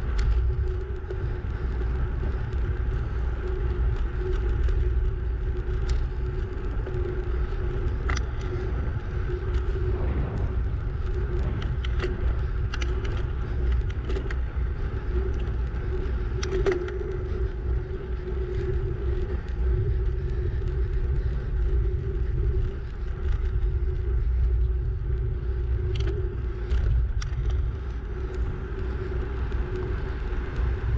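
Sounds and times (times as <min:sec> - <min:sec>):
faint hum: 0:00.0 - 0:30.9
small ticks: 0:00.0 - 0:30.9
wind noise on microphone: 0:00.0 - 0:30.9.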